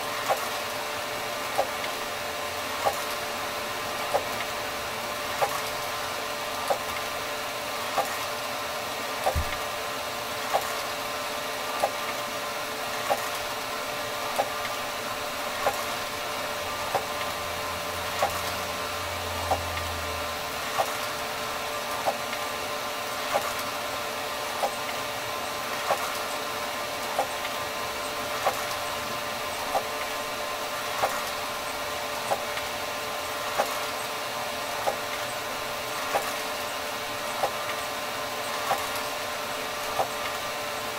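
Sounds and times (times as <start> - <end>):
printer mechanical whine: 0.0 - 40.9.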